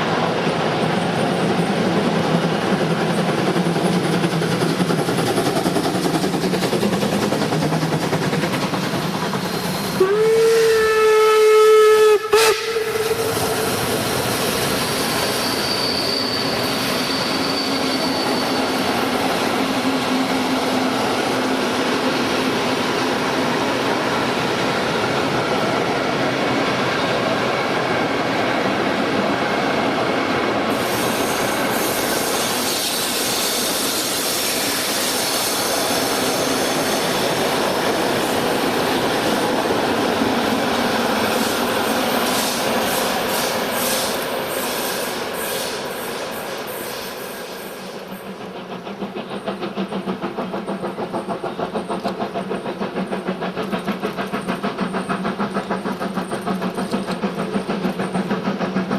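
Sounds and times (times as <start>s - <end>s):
train rolling on rails: 0.0s - 58.9s.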